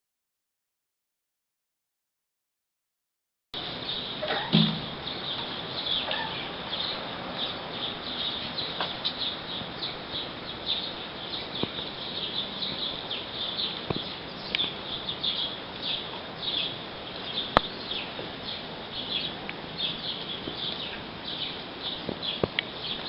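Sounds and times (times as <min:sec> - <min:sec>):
small birds chirping: 0:03.6 - 0:23.0.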